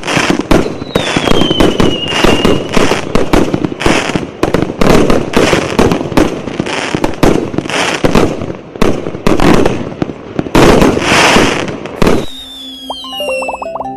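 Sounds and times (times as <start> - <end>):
fireworks bangs and crackling: 0.0 - 13.6.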